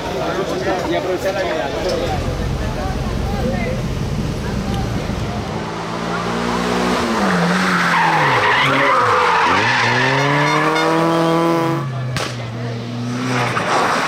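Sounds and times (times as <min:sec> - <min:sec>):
race car engine at high revs: 0:02.0 - 0:14.0.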